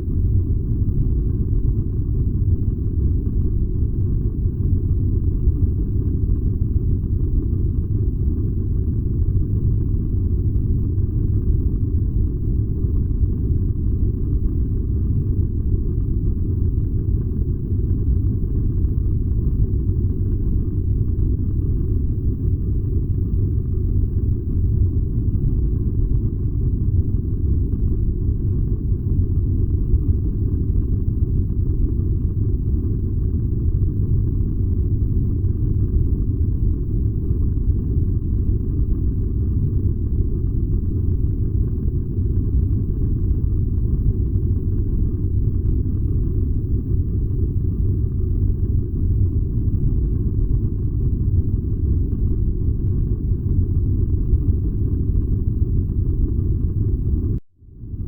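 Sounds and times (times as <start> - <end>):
furnace deep rumble: 0.0 - 58.0.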